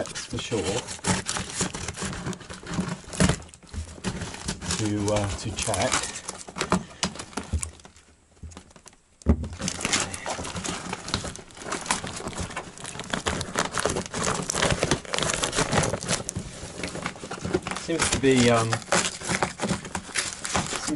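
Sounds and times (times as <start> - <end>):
paper bag tearing and crumpling: 0.0 - 7.8, 9.6 - 20.9.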